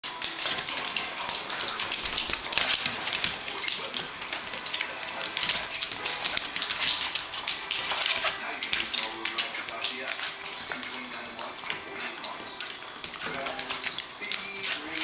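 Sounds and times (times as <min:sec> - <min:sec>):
dog claws scrabbling on wood floor: 0:00.1 - 0:15.0.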